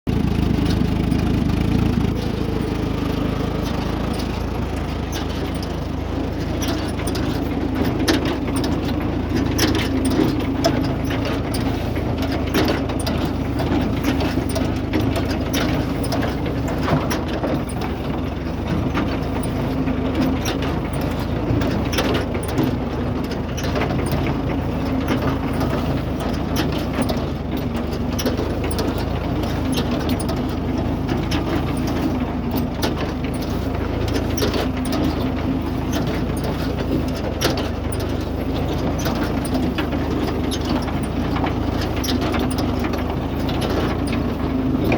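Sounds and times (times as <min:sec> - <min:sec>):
engine drone: 0:00.0 - 0:44.9
baler mechanism clanks and clicks: 0:00.1 - 0:44.9.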